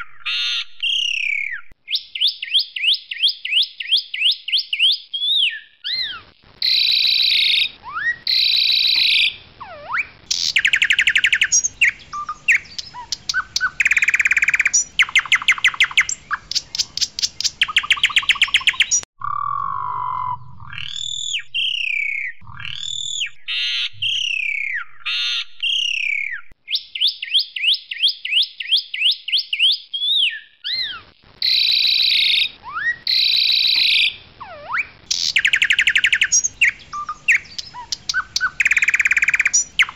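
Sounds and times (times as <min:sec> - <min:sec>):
starling whistles: 0:00.0 - 0:39.9.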